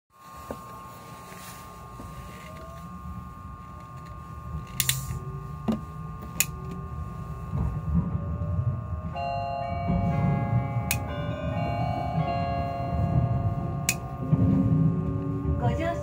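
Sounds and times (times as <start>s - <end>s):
traction motor tones rising: 1.9s - 16.0s
train running rumble: 2.0s - 16.0s.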